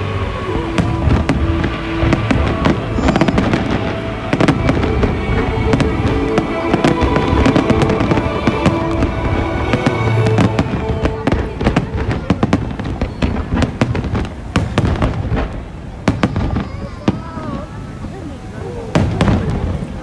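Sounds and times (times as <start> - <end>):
music with long held notes: 0.0 - 16.6
fireworks bursting: 0.0 - 20.0.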